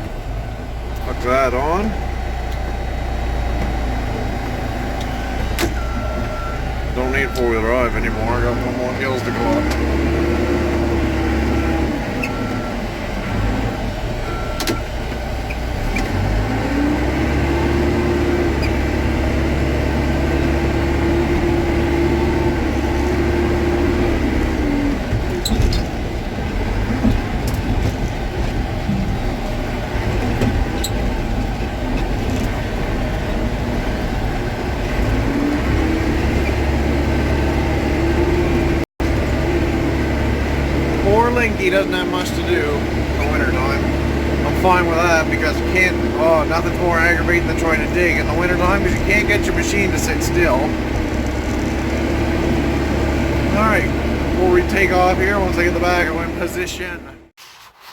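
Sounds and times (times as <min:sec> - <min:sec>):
diesel engine revving: 0:00.0 - 0:57.4.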